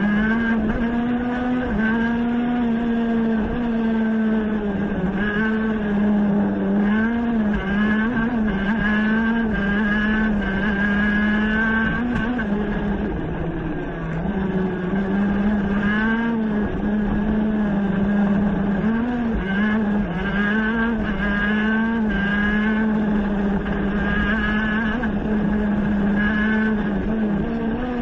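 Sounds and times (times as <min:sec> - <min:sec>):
race car engine at high revs: 0:00.0 - 0:28.0
wind and road noise: 0:00.0 - 0:28.0.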